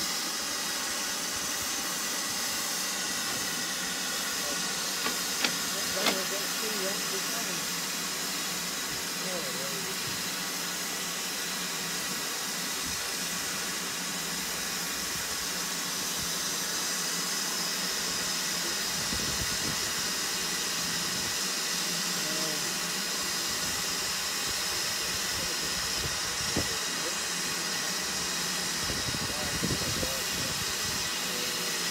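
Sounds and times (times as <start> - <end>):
steam hissing from locomotive: 0.0 - 31.9.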